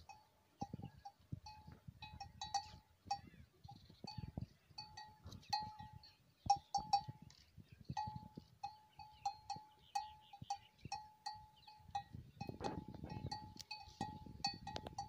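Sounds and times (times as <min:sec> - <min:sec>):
camel bell clanking: 0:00.0 - 0:15.0.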